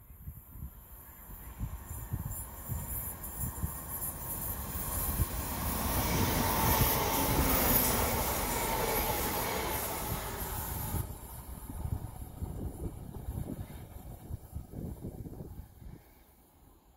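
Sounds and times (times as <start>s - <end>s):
diesel train passing: 0.8s - 16.9s.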